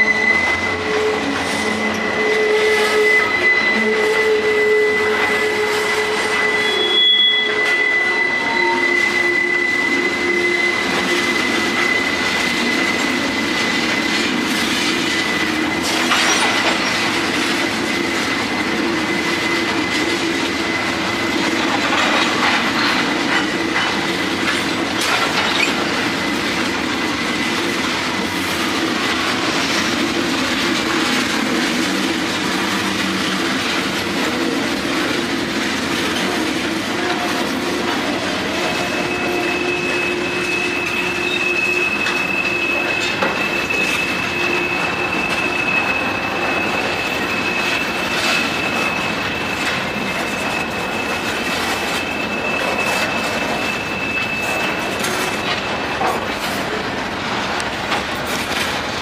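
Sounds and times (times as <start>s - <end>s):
high-pitched wheel squeal: 0.0s - 57.1s
lower wheel squeal: 0.0s - 58.8s
freight train rolling past: 0.0s - 59.0s.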